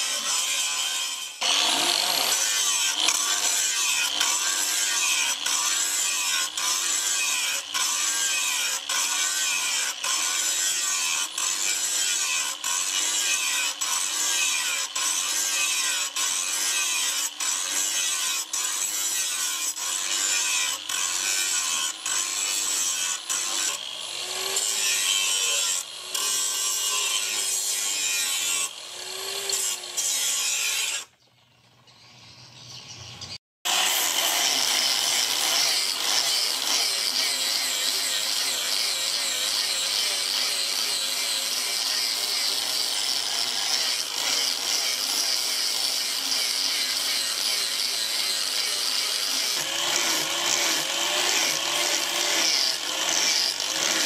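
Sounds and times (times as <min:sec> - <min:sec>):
angle grinder grinding steel: 0:00.0 - 0:31.2, 0:32.8 - 0:54.0.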